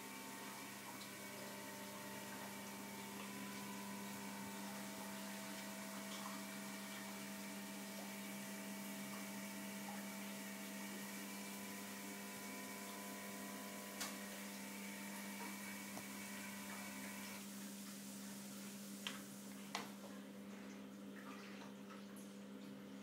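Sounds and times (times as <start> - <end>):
pond pump electric hum: 0.0 - 23.0.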